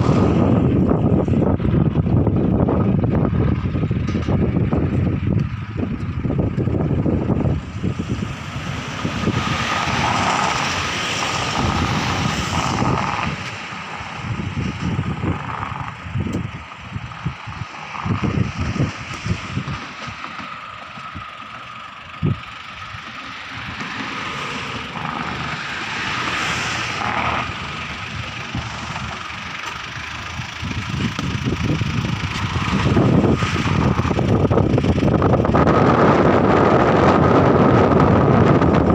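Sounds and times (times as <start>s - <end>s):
vehicle running noise: 0.0s - 38.9s
wind buffeting microphone: 0.0s - 38.9s.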